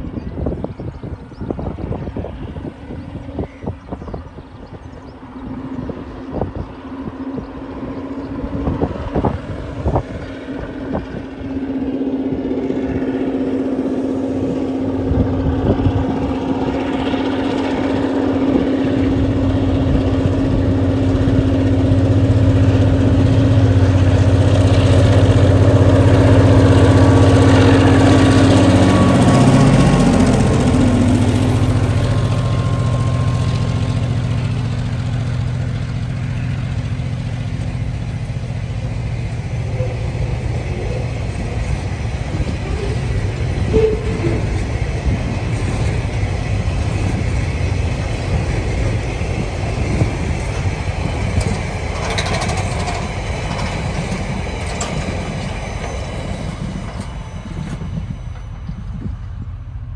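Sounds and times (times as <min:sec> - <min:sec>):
diesel locomotive engine: 0:00.0 - 0:59.9
wagons rumbling on rails: 0:00.0 - 0:59.9.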